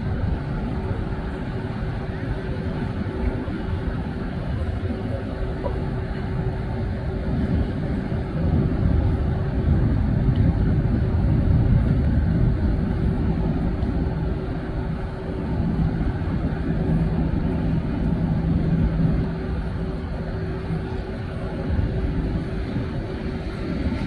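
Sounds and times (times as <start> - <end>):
jet engines rumbling: 0.0 - 24.0
steady hum: 0.0 - 24.0.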